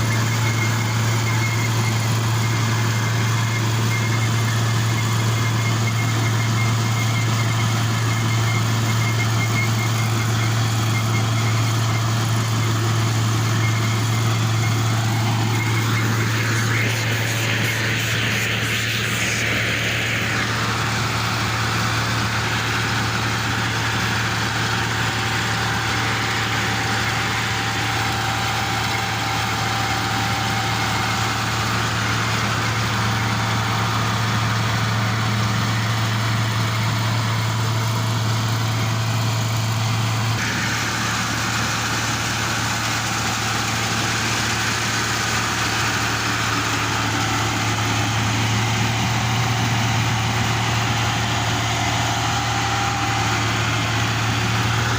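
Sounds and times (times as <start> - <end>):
diesel engine running: 0.0 - 54.9
machinery noise: 0.0 - 54.9.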